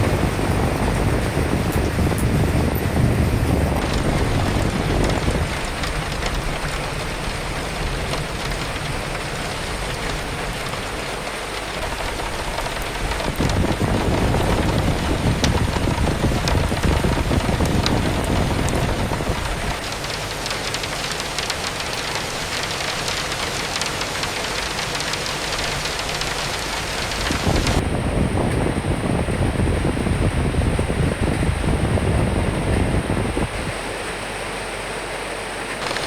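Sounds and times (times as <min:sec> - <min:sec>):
gusting wind: 0:00.0 - 0:36.0
steady rain: 0:00.0 - 0:36.0.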